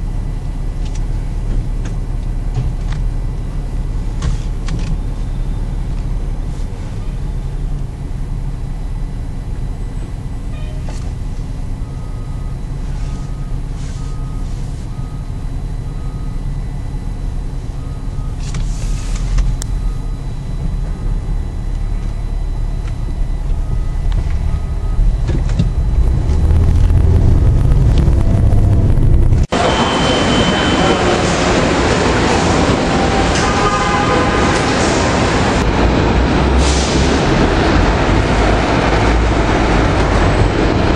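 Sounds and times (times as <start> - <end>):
diesel engine rumble: 0.0 - 40.9
traffic: 0.0 - 40.9.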